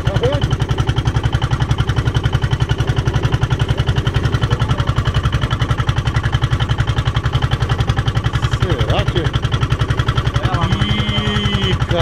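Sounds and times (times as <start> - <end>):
boat engine thudding: 0.0 - 12.0.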